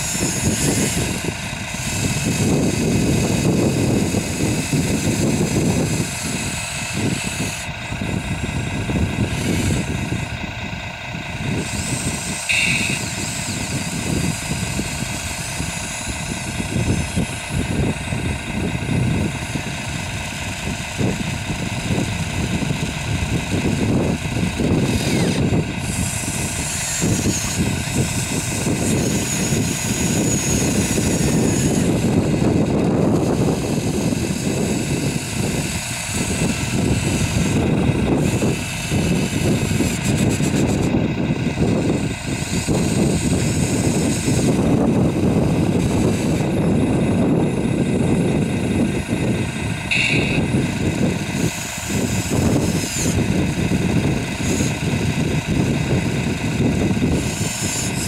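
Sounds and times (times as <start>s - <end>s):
small electric motors whining: 0.0s - 58.0s.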